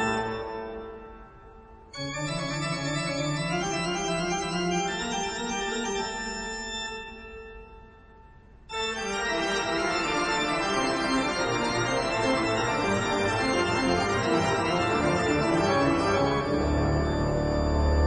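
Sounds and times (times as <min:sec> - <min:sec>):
organ music: 0:00.0 - 0:07.9, 0:08.7 - 0:18.0.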